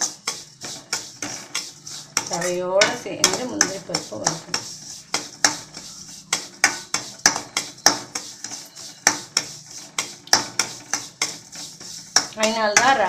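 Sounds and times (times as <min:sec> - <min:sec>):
spoon scraping steel pan: 0:00.0 - 0:13.0.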